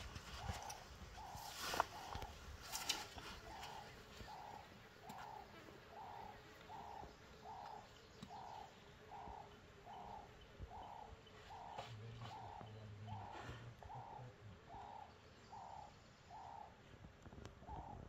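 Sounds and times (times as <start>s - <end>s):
bird calling faintly: 0.0s - 16.9s.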